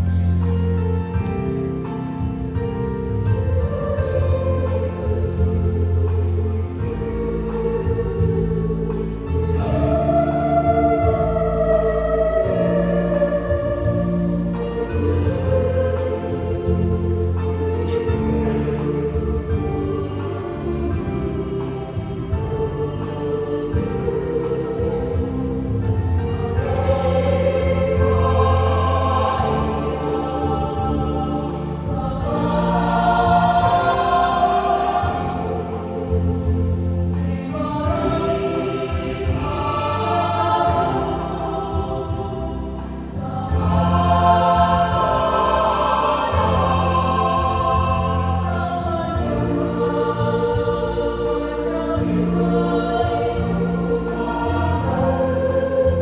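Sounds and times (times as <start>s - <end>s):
youth choir singing a hymn: 0.0s - 56.0s.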